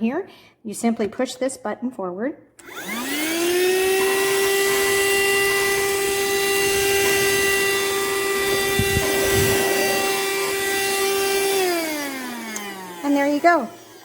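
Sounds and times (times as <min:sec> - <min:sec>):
handheld vacuum whining: 0:02.6 - 0:14.0.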